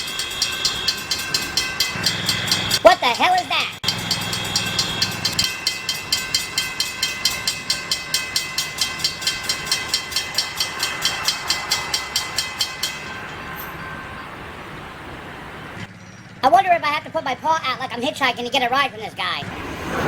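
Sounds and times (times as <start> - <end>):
railroad crossing bell ringing: 0.0 - 20.0
train passing: 0.0 - 20.0.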